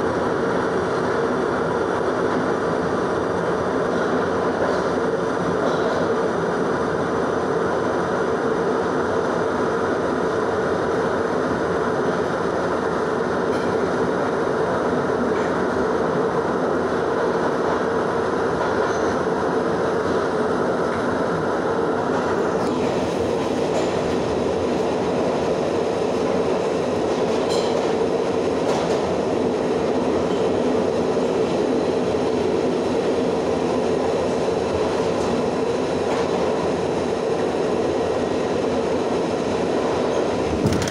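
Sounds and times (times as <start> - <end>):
subway train rumbling in tunnel: 0.0 - 40.9.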